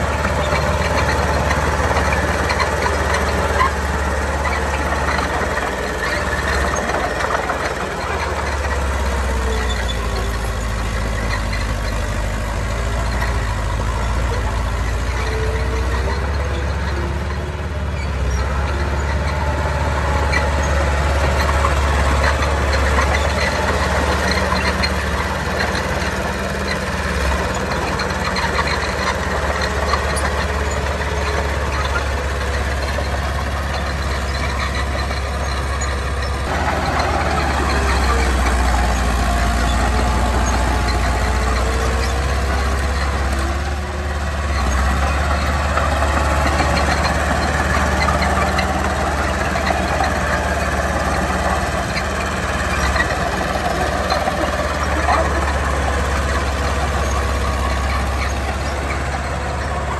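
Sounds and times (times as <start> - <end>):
diesel engines droning: 0.0 - 59.9
machinery clatter: 0.0 - 59.9.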